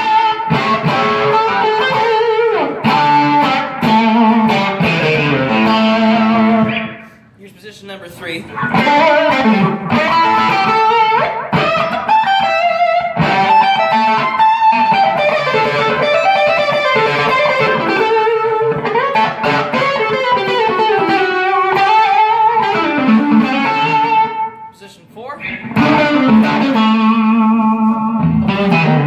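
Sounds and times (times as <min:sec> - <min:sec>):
electric guitar blues-rock licks: 0:00.0 - 0:07.3, 0:08.4 - 0:24.7, 0:25.4 - 0:29.0.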